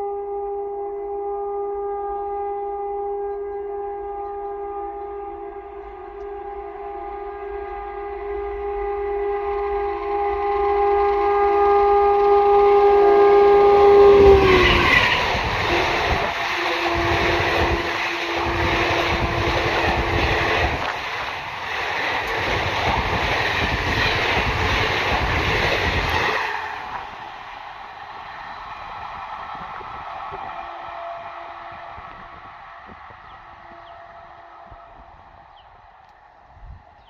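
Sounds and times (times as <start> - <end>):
train horn: 0.0 - 36.2
train rumble and wheel clatter: 1.8 - 35.6.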